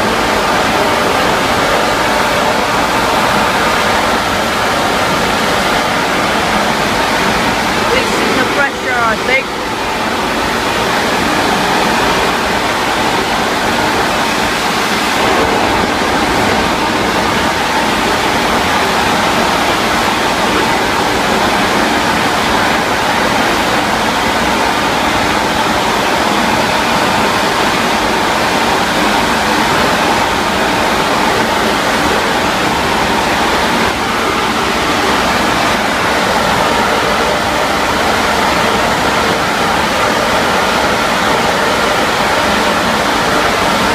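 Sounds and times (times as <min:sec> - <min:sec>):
steam hissing: 0:00.0 - 0:43.9.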